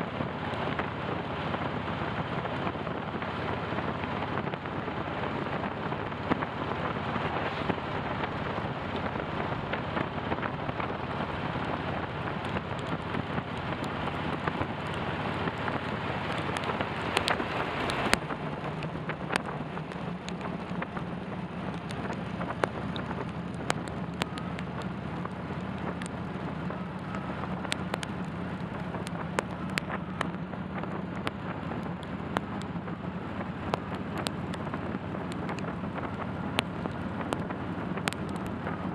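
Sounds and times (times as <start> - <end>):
motorcycle engine drone: 0.0 - 38.9
wind and road noise: 0.0 - 38.9
raindrops ticking on camera: 0.1 - 38.9.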